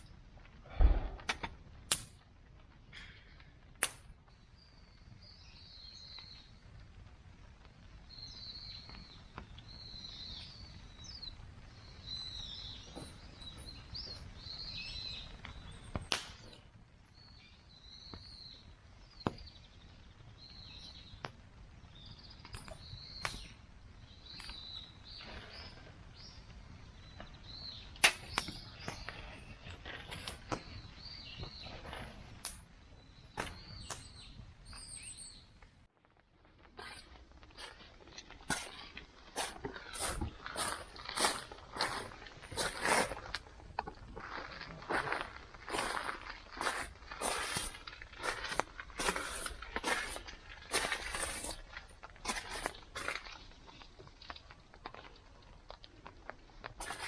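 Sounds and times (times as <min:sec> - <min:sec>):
birds chirping: 0:04.3 - 0:06.7, 0:08.0 - 0:35.7, 0:36.7 - 0:57.0.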